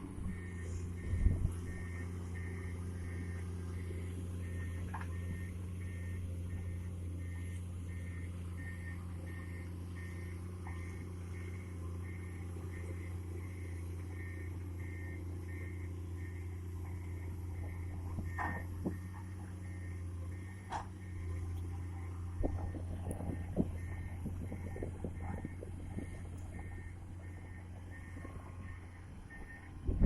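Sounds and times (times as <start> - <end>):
excavator diesel engine running: 0.0 - 30.0
travel alarm beeping: 0.3 - 21.5, 22.4 - 29.7.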